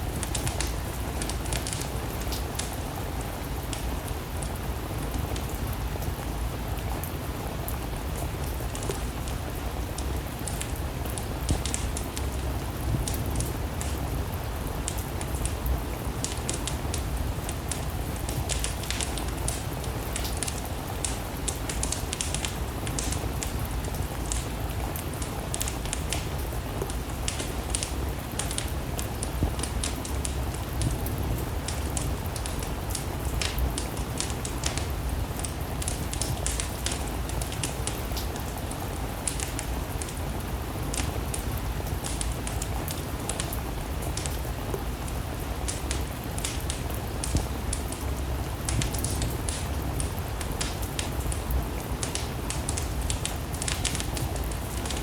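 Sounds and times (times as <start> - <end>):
steady rain: 0.0 - 55.0
wood fire crackling and popping: 0.0 - 55.0.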